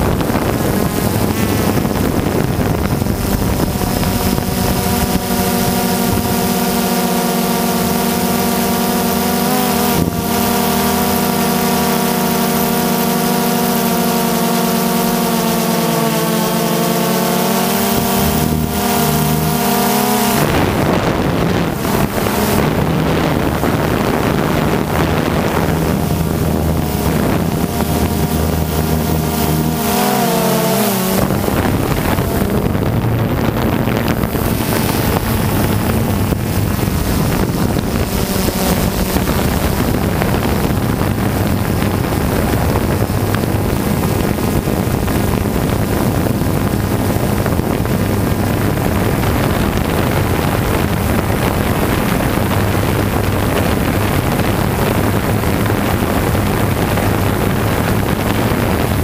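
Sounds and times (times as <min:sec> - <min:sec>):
drone propellers whining: 0:00.0 - 0:59.0
wind on microphone: 0:00.0 - 0:59.0.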